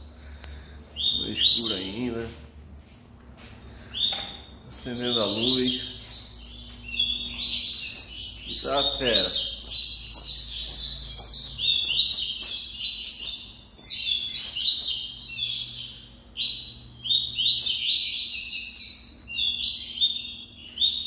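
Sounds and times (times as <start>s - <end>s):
birds singing high sharp notes: 0.0s - 2.4s, 3.6s - 21.0s.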